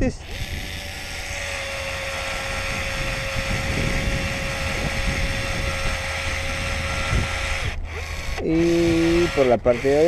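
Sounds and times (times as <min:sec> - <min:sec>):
wind rumbling on microphone: 0:00.0 - 0:09.4
caulking gun motor whine: 0:00.0 - 0:10.0.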